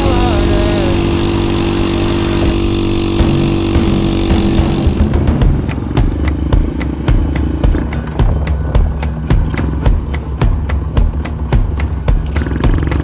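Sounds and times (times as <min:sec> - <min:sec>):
minibike engine running: 0:00.0 - 0:13.0.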